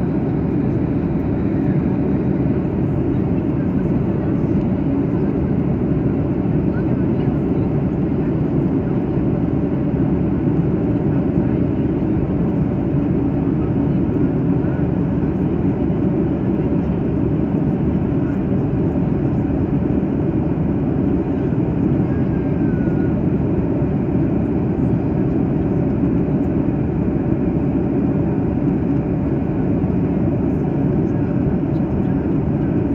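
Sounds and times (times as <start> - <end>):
airplane cabin engine rush: 0.0 - 32.9.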